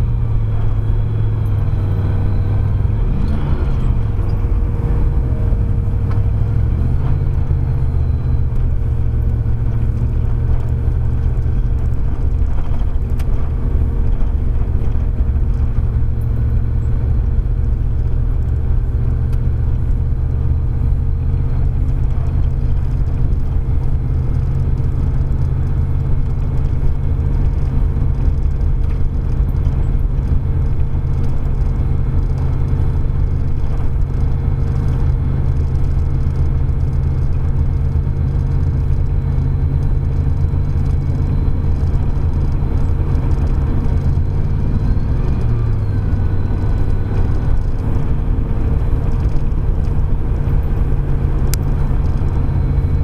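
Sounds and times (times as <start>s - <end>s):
engine low rumble: 0.0s - 53.0s
road noise from inside cab: 0.0s - 53.0s.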